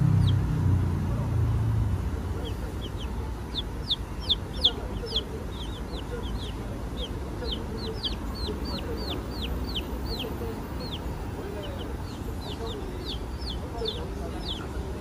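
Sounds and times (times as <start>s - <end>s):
chicks peeping: 0.0s - 0.4s, 2.3s - 15.0s.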